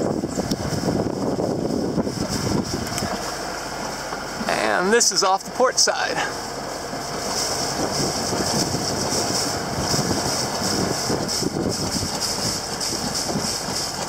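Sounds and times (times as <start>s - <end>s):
diesel boat engine running: 0.0s - 14.0s
rush of wind and water: 0.0s - 14.0s.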